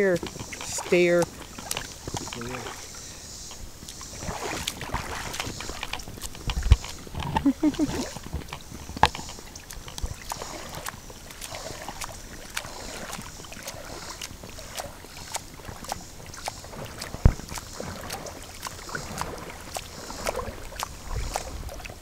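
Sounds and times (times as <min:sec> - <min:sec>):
river water splashing: 0:00.0 - 0:22.0.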